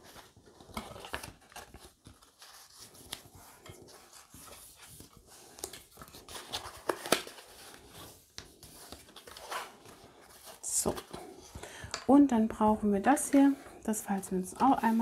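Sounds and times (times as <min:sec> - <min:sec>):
paper rustling and sliding: 0:00.0 - 0:11.6, 0:13.3 - 0:15.0.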